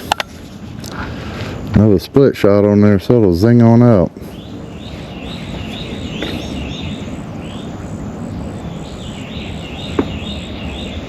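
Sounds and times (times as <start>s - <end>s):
birds chirping: 0.0s - 11.0s
steady rushing noise: 0.0s - 11.0s.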